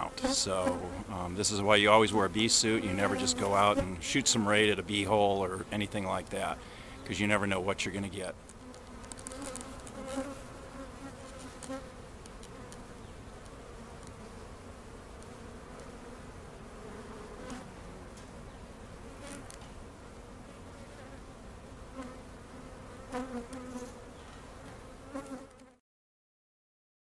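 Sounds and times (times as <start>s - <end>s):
bees buzzing: 0.0s - 25.8s.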